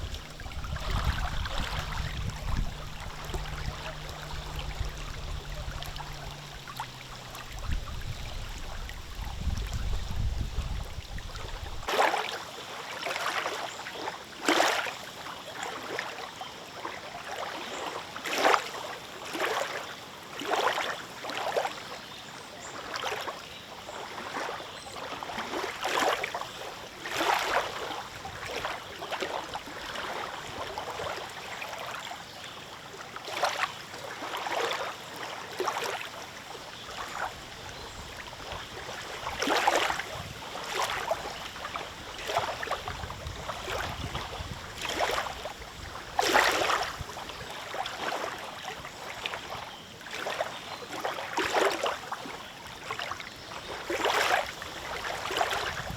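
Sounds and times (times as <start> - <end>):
wash of moving water: 0.0 - 55.9
waves lapping at the shore: 0.0 - 55.9.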